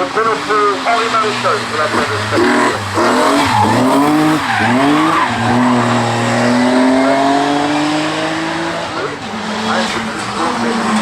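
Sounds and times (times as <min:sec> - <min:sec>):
race car engine accelerating: 0:00.2 - 0:11.0.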